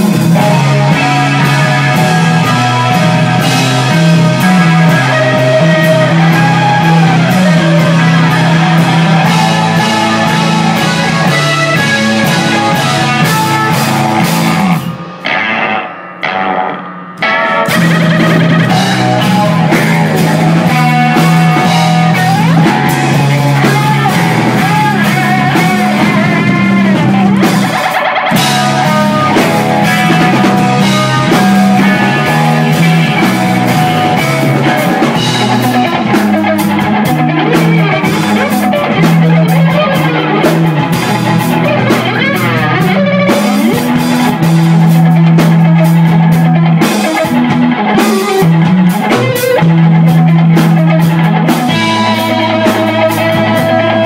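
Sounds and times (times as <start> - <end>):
drum kit and cymbals: 0.0 - 54.0
electric guitar with sliding notes: 0.0 - 54.0.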